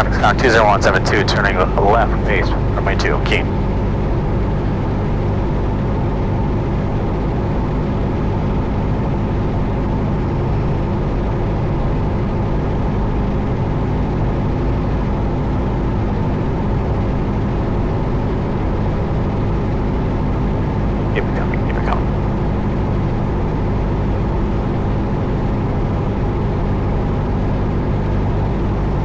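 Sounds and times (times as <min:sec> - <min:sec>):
aircraft engine droning in cockpit: 0:00.0 - 0:29.0.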